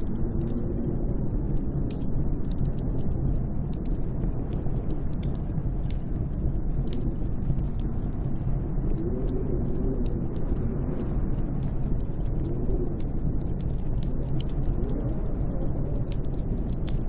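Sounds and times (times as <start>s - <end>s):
small sharp crackles: 0.0s - 17.0s
snowstorm wind rushing: 0.0s - 17.0s.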